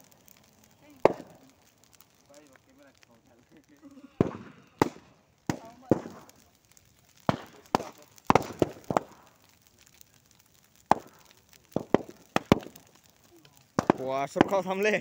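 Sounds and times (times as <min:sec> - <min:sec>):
bonfire sharp pops: 0:00.0 - 0:15.0.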